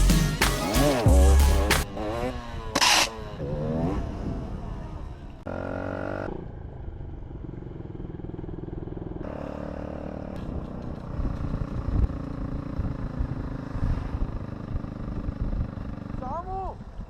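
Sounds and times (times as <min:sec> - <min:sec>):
two-stroke motorcycle engine: 0:00.8 - 0:17.0.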